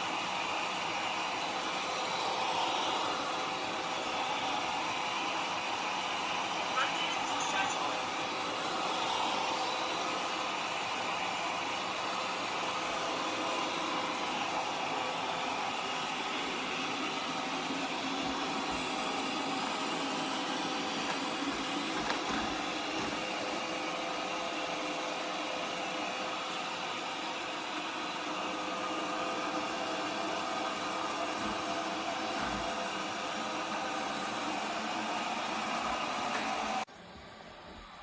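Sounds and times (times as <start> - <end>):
robot vacuum whirring: 0.1 - 38.0.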